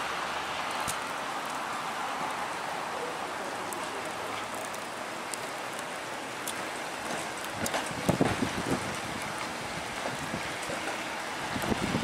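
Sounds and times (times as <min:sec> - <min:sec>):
wet snow falling on street: 0:00.0 - 0:12.0.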